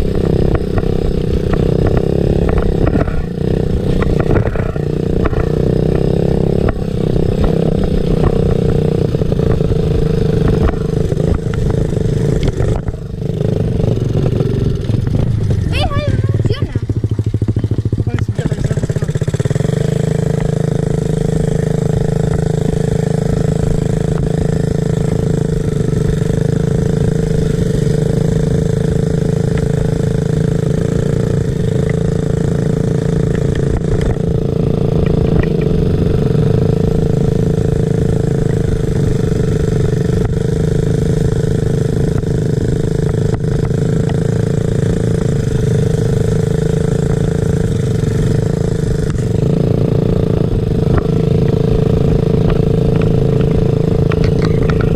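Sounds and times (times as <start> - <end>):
dirt-bike engine running: 0.0 - 54.9.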